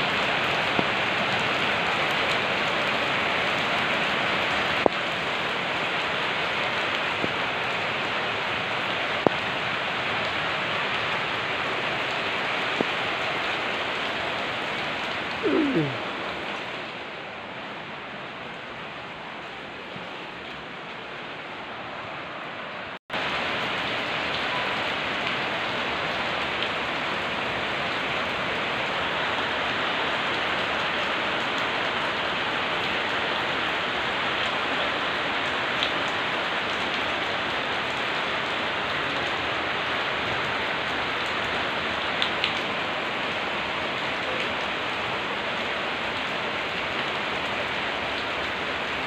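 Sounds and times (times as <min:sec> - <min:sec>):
rain on brick paving: 0:00.0 - 0:49.0.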